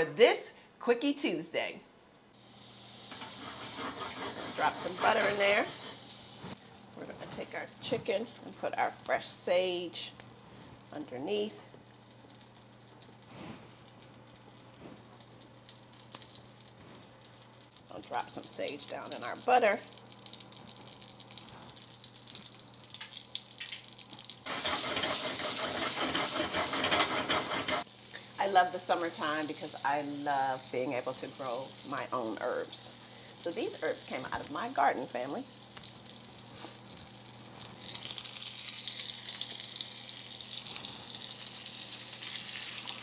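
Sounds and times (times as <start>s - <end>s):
butter sizzling in a skillet: 2.4s - 43.0s.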